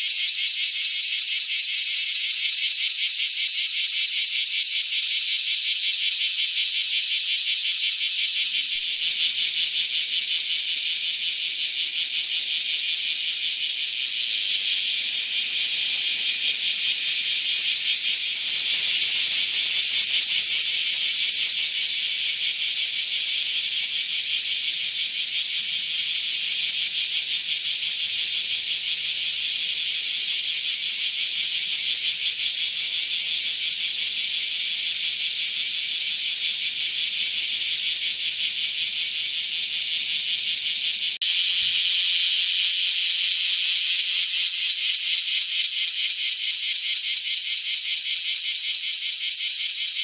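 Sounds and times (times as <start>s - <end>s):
cicada buzzing: 0.0s - 50.0s.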